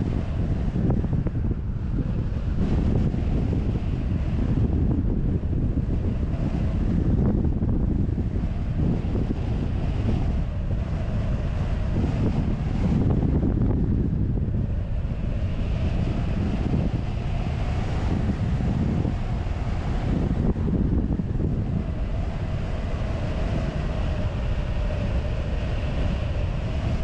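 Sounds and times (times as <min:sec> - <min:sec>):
wind noise on microphone: 0:00.0 - 0:27.0.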